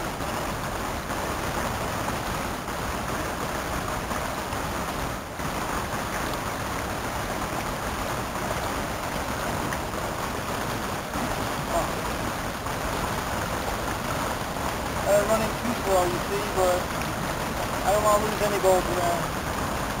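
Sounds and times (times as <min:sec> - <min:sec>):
creek water running: 0:00.0 - 0:20.0.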